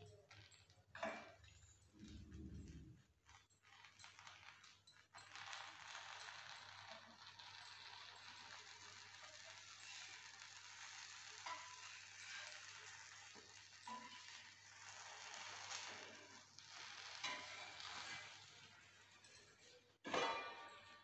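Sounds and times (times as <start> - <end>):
faint sizzling on a hot pan: 0.0 - 21.0
steel spatula scraping a pan: 0.5 - 21.0.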